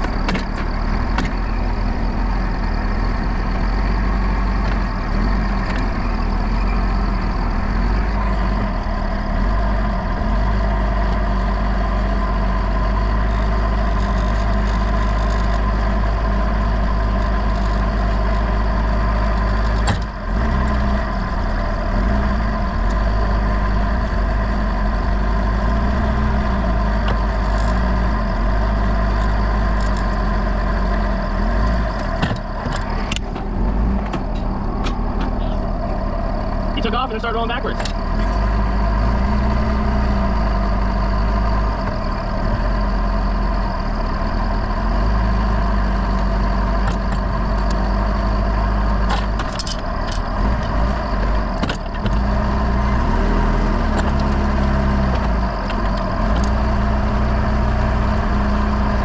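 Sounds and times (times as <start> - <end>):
forklift engine running: 0.0 - 59.0.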